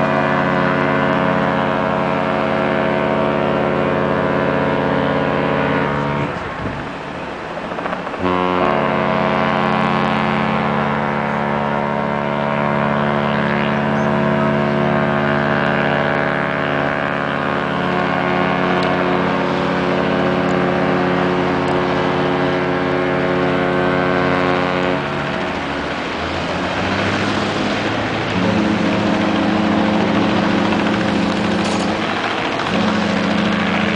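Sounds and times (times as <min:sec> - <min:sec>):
ship's horn blast: 0:00.0 - 0:33.9.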